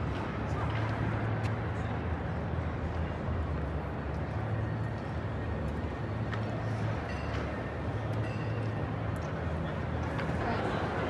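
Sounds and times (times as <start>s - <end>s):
low hum of indoor hall: 0.0s - 11.0s.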